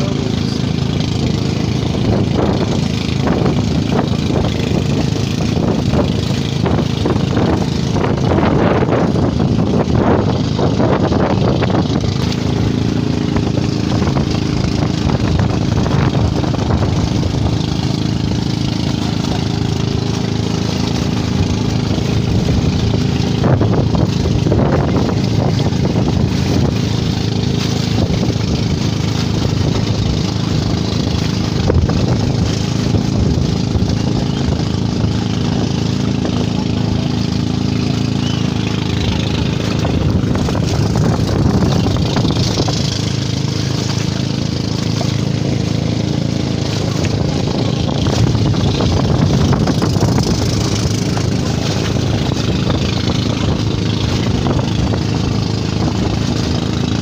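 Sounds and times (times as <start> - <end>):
boat engine running: 0.0 - 57.0
water splashing against hull: 0.0 - 57.0.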